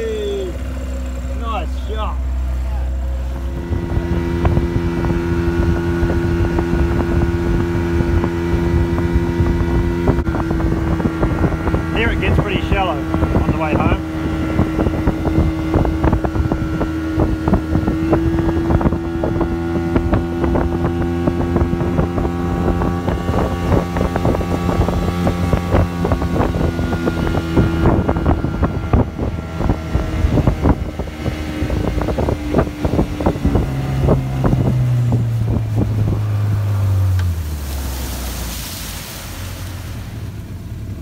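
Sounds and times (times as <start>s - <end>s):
motorboat engine running: 0.0s - 41.0s.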